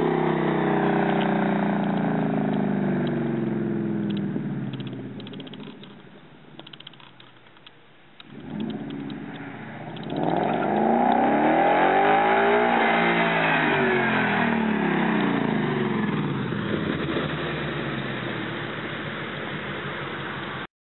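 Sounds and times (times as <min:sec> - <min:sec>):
car engine revving: 0:00.0 - 0:07.2, 0:08.2 - 0:20.6.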